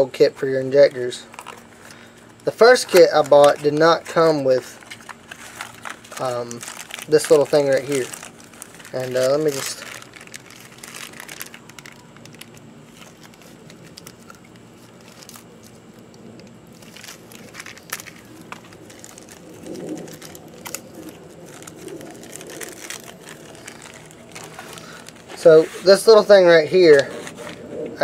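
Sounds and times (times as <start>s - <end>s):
paper packet rustling: 0.2s - 28.0s.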